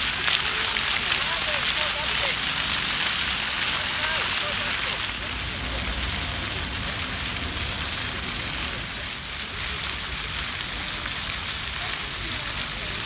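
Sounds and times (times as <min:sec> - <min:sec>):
fountain water splashing on stone: 0:00.0 - 0:13.0.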